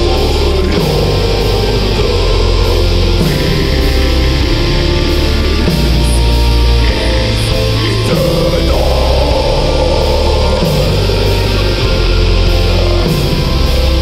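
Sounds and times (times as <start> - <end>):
doom metal band playing: 0.0 - 14.0.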